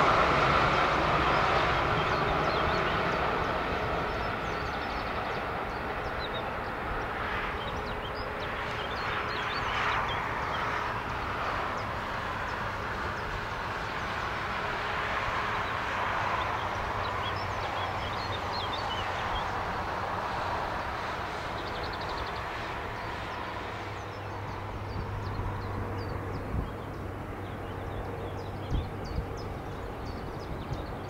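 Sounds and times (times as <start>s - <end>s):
distant traffic: 0.0s - 31.0s
small birds chirping: 1.2s - 14.4s, 15.4s - 19.8s, 20.7s - 31.0s.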